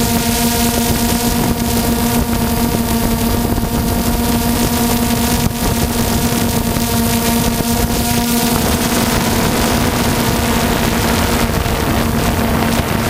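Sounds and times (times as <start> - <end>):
drone propellers buzzing whine: 0.0 - 13.0.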